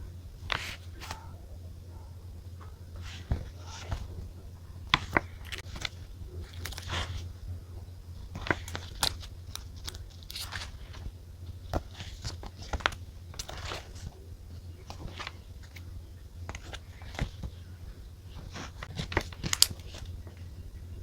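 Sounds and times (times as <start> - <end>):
steady low hum: 0.0 - 21.0
paper rustling and scratching: 0.4 - 2.0, 2.6 - 7.4, 8.2 - 20.5.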